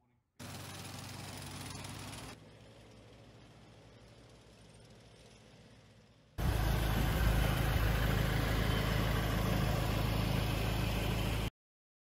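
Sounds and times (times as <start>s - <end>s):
large engine running: 0.4s - 11.5s.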